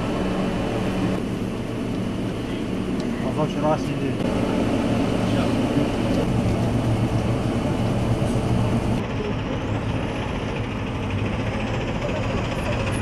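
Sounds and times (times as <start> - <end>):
minibus engine humming: 0.0 - 13.0
minibuses heard from outside: 0.0 - 13.0.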